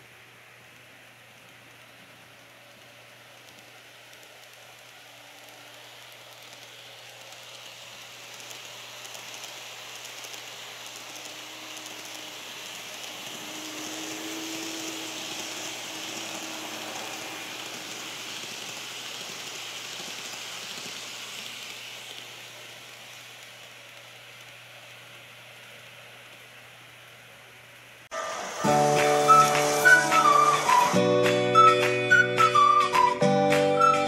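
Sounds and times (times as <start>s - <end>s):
model train wheels rumbling on rail: 0.0s - 26.4s, 28.2s - 33.1s
faint motor whine: 0.0s - 32.8s.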